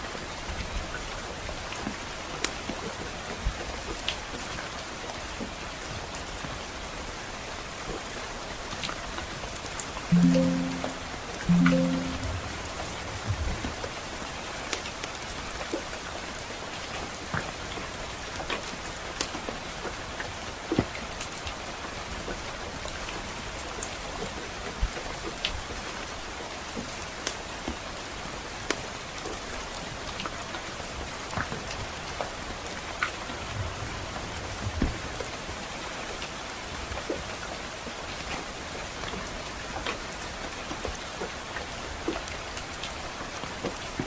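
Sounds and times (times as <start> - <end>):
steady rain: 0.0 - 12.2, 13.8 - 44.0.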